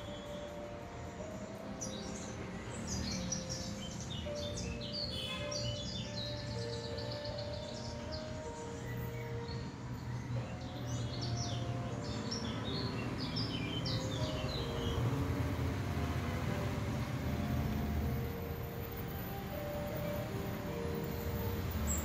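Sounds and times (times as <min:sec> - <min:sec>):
small birds chirping: 0:00.0 - 0:22.0
soft held musical tones: 0:00.0 - 0:22.0.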